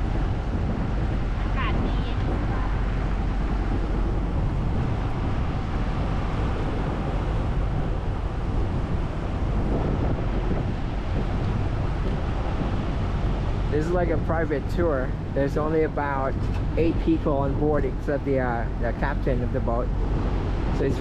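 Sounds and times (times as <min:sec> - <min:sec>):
boat engine: 0:00.0 - 0:21.0
churning water: 0:00.0 - 0:21.0
wind on microphone: 0:00.0 - 0:21.0.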